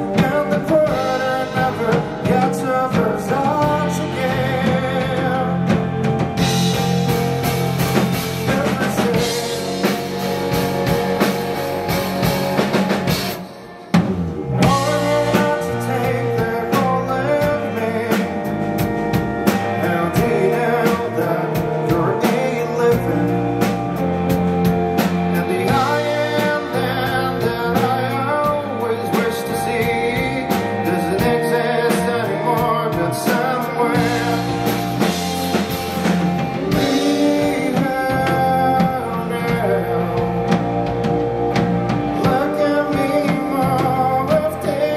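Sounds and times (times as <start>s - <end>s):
man singing: 0.0s - 6.8s, 7.9s - 11.5s, 14.6s - 24.4s, 25.0s - 41.0s, 42.0s - 44.9s
bass guitar: 0.0s - 44.9s
drum kit: 0.0s - 44.9s
electric guitar: 0.0s - 44.9s.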